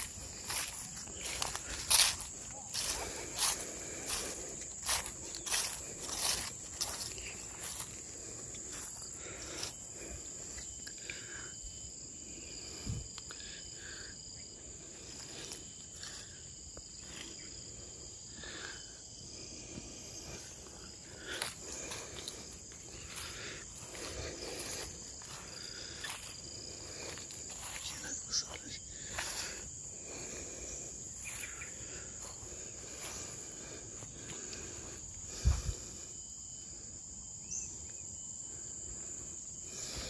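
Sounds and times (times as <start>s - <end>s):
insects shrilling: 0.0s - 40.0s.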